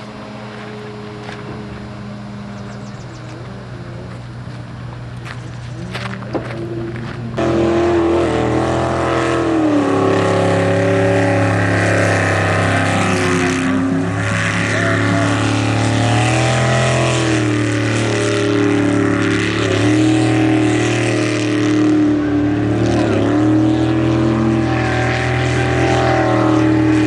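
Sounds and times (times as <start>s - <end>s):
boat engine running hard: 0.0s - 27.0s.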